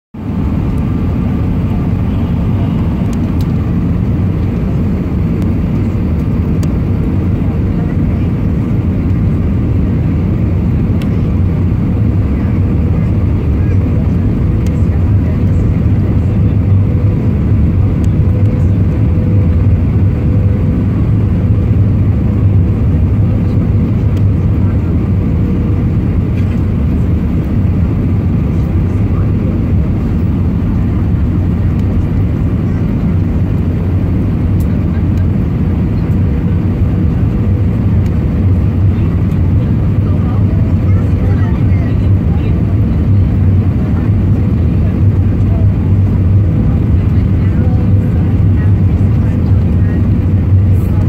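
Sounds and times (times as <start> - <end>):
airliner cabin engine rumble: 0.2 - 51.0.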